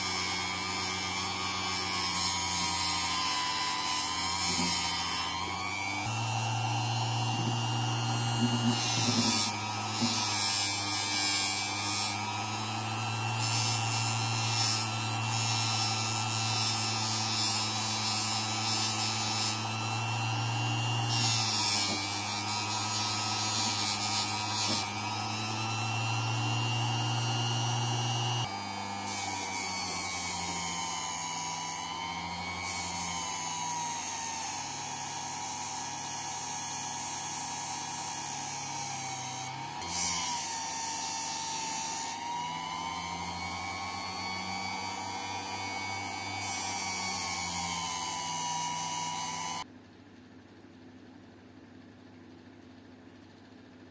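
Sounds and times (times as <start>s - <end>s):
small electric motor buzzing: 0.0s - 49.7s.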